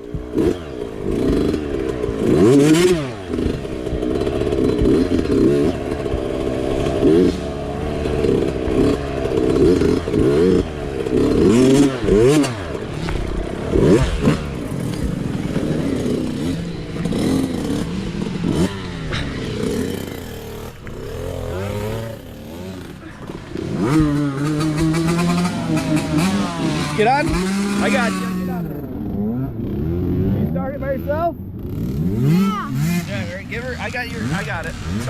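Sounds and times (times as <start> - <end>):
mini bike engine revving: 0.0 - 35.0.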